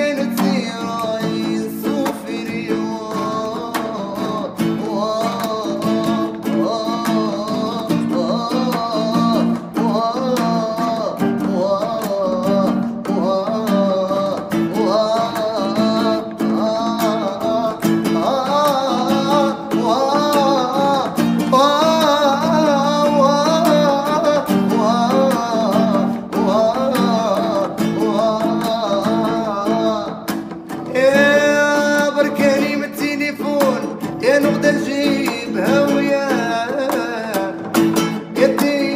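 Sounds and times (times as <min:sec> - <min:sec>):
man singing: 0:00.0 - 0:38.9
strummed acoustic guitar: 0:00.0 - 0:38.9.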